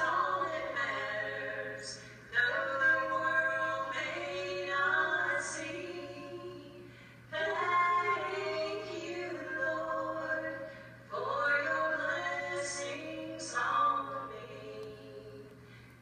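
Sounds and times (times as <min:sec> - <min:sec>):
women singing gospel duet: 0:00.0 - 0:15.7.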